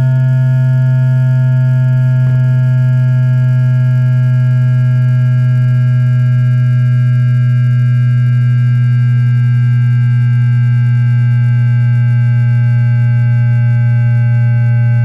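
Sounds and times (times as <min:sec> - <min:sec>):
train inverter electrical whine: 0:00.0 - 0:15.0.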